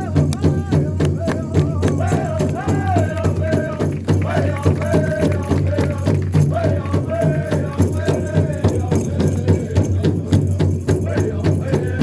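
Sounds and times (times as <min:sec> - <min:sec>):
chanted singing: 0:00.0 - 0:12.0
drum steady beat: 0:00.0 - 0:12.0.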